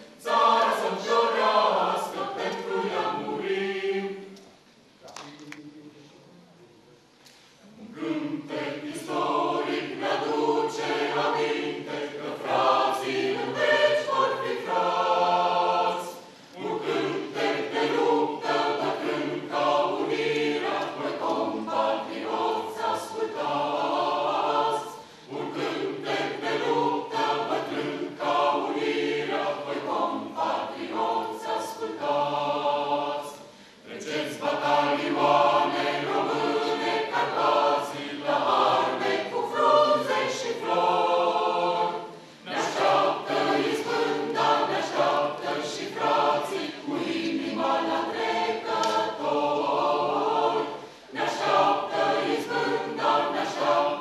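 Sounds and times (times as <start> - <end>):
mixed choir singing unaccompanied: 0.0 - 4.4, 7.6 - 54.0.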